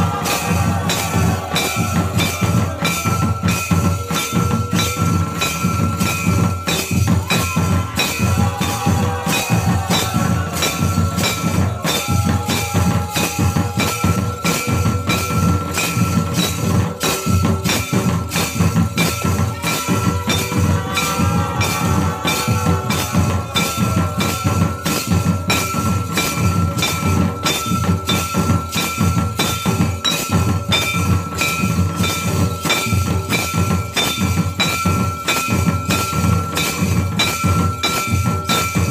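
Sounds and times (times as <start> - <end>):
hand drum rhythm: 0.0 - 38.9.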